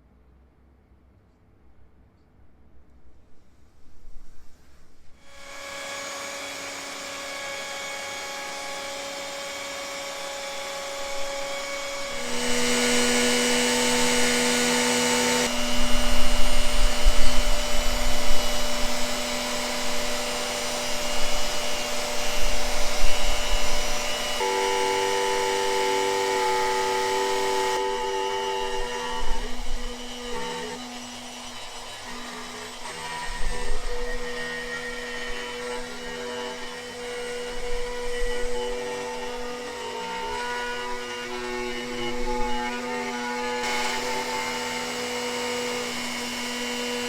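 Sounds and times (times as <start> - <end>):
power tool motor whining: 5.3 - 47.0.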